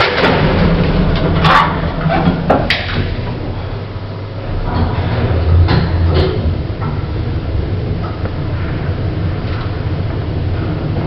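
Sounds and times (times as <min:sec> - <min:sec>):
lift machinery rumbling: 0:00.0 - 0:11.0.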